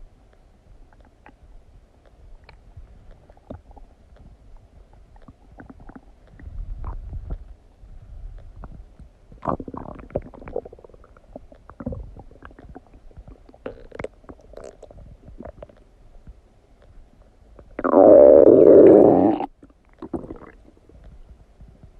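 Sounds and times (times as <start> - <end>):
stomach gurgling: 0.9 - 7.6, 8.3 - 21.9.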